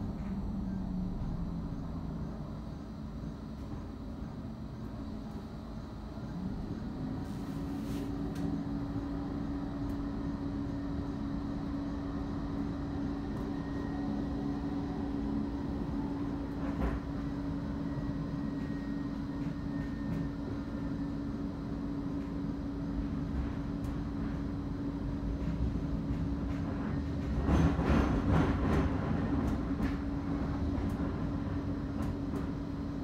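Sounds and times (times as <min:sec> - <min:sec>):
tram drive hum: 0:00.0 - 0:33.0
wheels rumbling on rails: 0:00.0 - 0:33.0.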